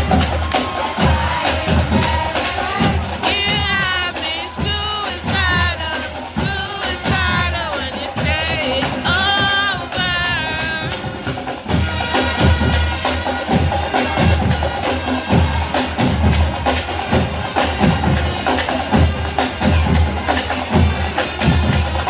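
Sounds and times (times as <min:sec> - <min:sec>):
marching drums: 0:00.0 - 0:22.0.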